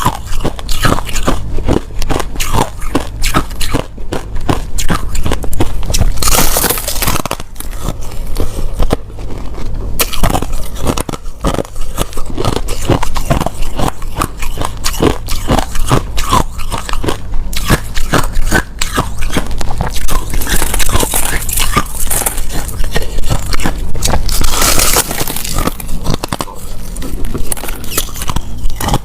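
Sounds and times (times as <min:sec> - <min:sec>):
ice being chewed: 0:00.0 - 0:29.0.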